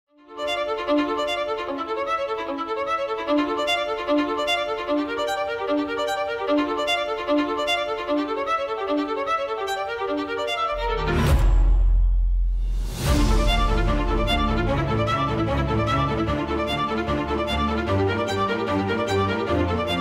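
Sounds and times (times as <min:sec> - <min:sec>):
instrumental background music: 0:00.1 - 0:20.0.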